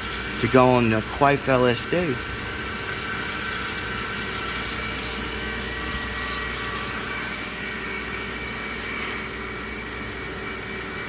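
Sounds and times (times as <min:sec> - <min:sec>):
machine drone with whining tones: 0:00.0 - 0:11.0.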